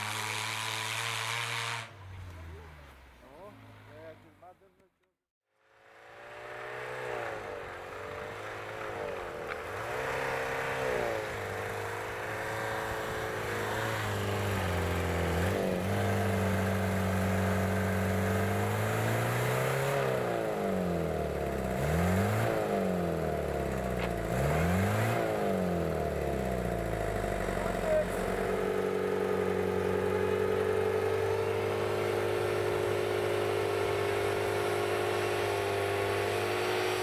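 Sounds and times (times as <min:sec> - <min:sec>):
truck engine revving: 0:00.0 - 0:03.6, 0:05.8 - 0:37.0.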